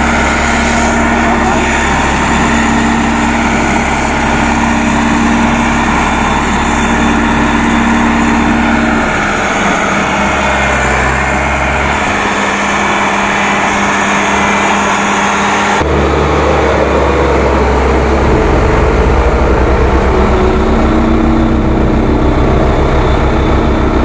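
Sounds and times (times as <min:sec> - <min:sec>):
road roller diesel engine running: 0:00.0 - 0:24.0.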